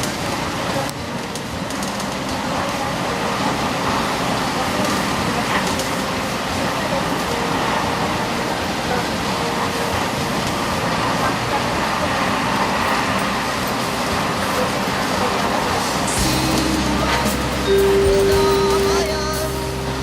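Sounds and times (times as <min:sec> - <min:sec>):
train running rumble and hiss: 0:00.0 - 0:20.0.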